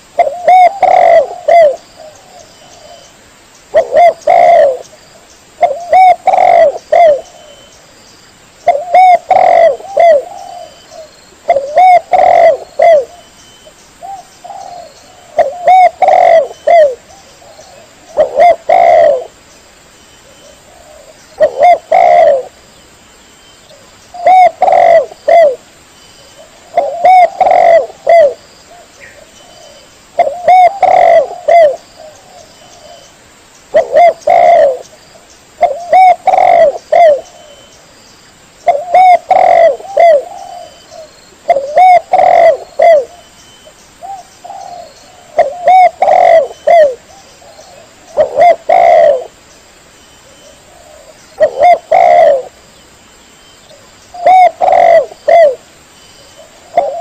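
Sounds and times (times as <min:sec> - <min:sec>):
dove cooing: 0:00.1 - 0:03.1, 0:03.7 - 0:04.9, 0:05.6 - 0:07.7, 0:08.6 - 0:13.3, 0:14.0 - 0:19.4, 0:20.2 - 0:22.6, 0:23.7 - 0:25.6, 0:26.3 - 0:33.1, 0:33.7 - 0:35.0, 0:35.6 - 0:37.7, 0:38.6 - 0:43.3, 0:44.0 - 0:49.4, 0:50.2 - 0:52.6, 0:53.7 - 0:55.7, 0:56.4 - 0:57.0.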